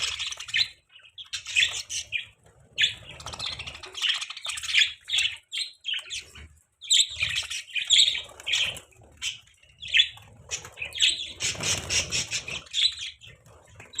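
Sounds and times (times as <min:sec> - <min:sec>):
budgies chirping: 0:00.0 - 0:14.0.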